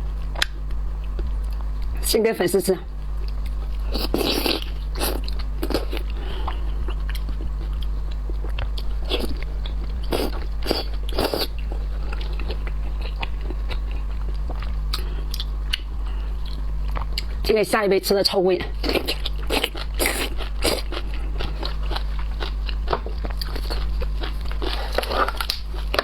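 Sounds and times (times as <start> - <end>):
person chewing crunchy food: 0.0 - 2.0, 2.9 - 17.4, 18.6 - 26.0
low hum: 0.0 - 26.0.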